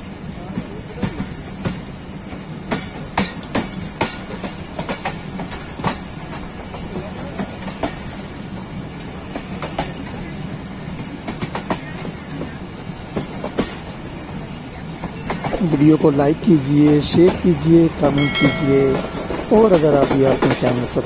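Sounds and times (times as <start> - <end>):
train steady rumble: 0.0 - 21.0
train wheels clicking over rail joints: 0.0 - 21.0.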